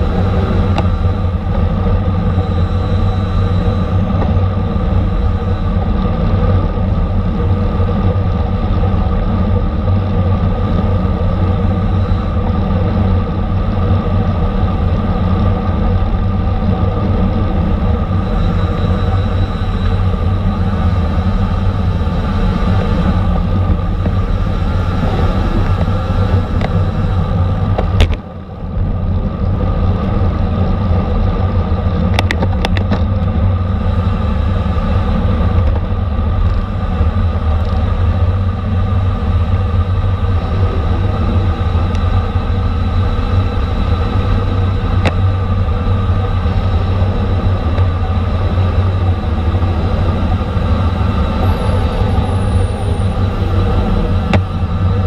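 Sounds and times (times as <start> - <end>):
road and drivetrain noise: 0.0 - 55.0
wind rumble on microphone: 0.0 - 55.0.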